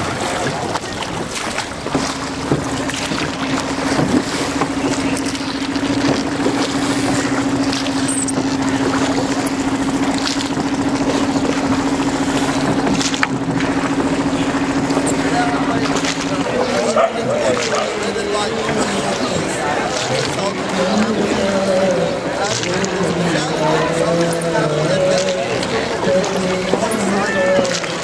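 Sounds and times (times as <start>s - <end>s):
boat engine running: 0.0s - 28.0s
water noise: 0.0s - 28.0s
wind: 0.0s - 28.0s.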